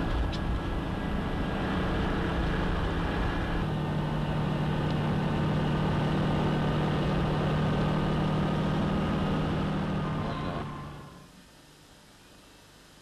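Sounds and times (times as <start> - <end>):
car engine hum from inside: 0.0 - 11.3.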